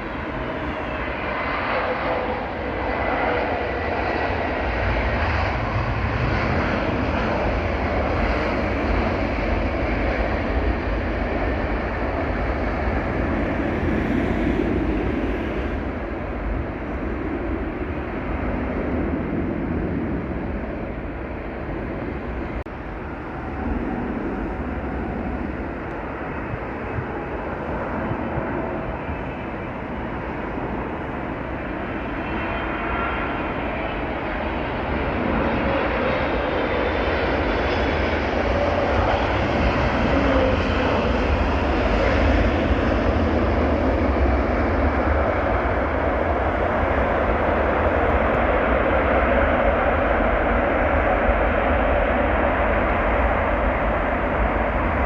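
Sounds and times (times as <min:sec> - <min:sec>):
faint engine whine: 0:00.0 - 0:55.0
jet airliner engine rush: 0:00.0 - 0:55.0.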